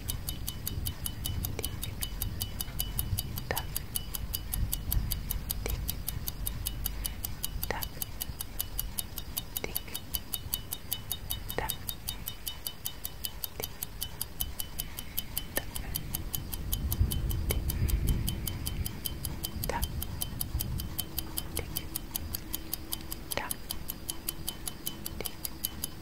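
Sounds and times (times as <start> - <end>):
low rumble: 0.0 - 12.4, 14.5 - 23.1
clock ticking: 0.0 - 26.0.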